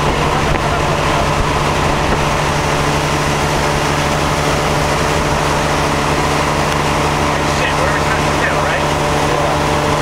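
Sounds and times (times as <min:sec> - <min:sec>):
churning wake rushing: 0:00.0 - 0:10.0
motorboat engine drone: 0:00.0 - 0:10.0.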